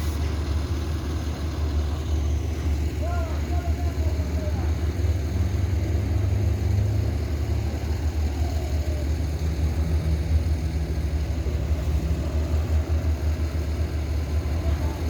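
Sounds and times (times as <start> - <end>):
engine running low: 0.0 - 15.0.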